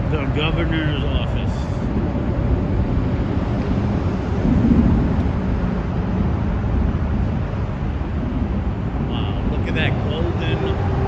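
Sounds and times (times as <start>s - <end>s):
street traffic: 0.0s - 11.0s
wind rumbling on microphone: 0.0s - 11.0s.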